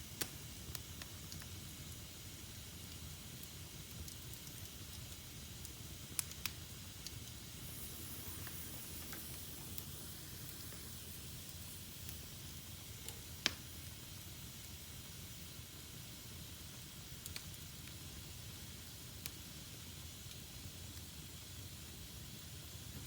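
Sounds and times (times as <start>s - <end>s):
fire crackling pops: 0.0s - 23.0s
fire hissing and rumbling: 0.0s - 23.0s.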